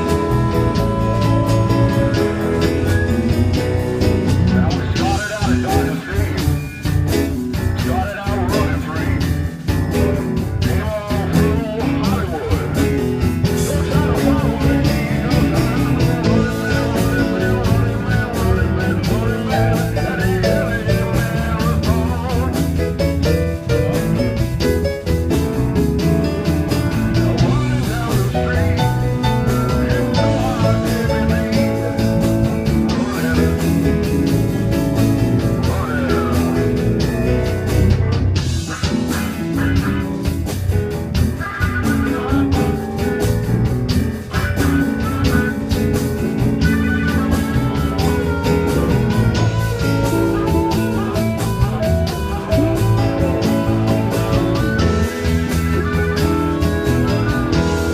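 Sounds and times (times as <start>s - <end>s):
bass: 0.0s - 57.9s
guitar lines: 0.0s - 57.9s
steady drum beat: 0.0s - 57.9s.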